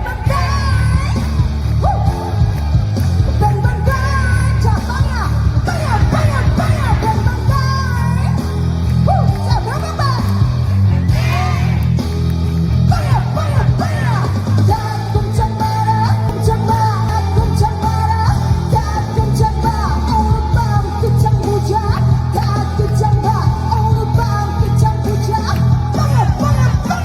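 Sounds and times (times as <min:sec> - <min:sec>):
woman singing pop song: 0:00.0 - 0:11.8, 0:12.9 - 0:27.0
heavy bass beat: 0:00.0 - 0:27.0.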